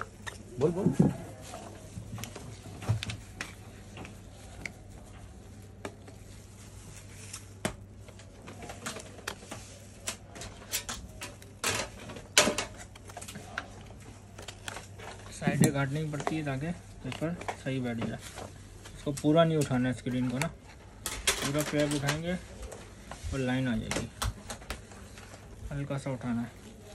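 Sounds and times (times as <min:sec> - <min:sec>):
paper rustling: 0:00.0 - 0:26.9
plastic gloves crinkling: 0:00.0 - 0:26.9.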